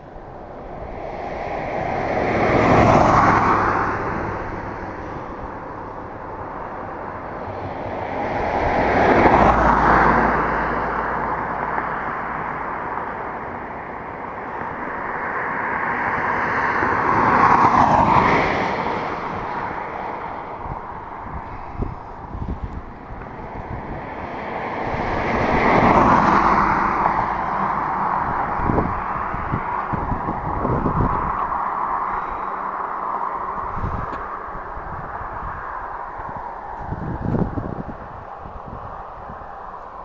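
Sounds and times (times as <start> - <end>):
vehicles passing by: 0.0 - 40.0.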